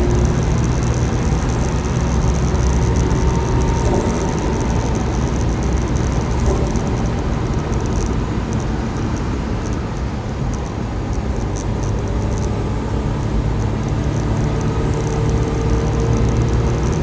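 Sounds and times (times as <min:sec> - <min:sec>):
faint irregular ticks: 0:00.0 - 0:17.0
truck engine running: 0:00.0 - 0:17.0.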